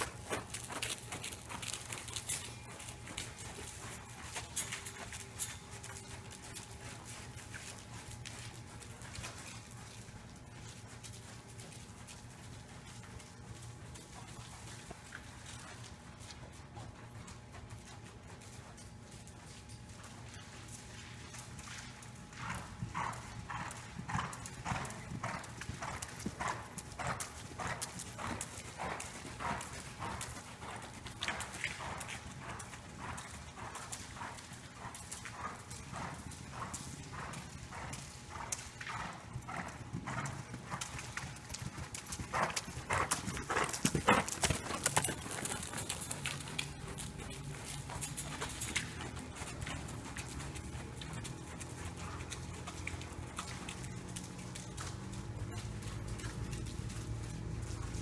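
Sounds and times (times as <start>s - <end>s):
horse hoofbeats on soft footing: 0.0s - 58.0s.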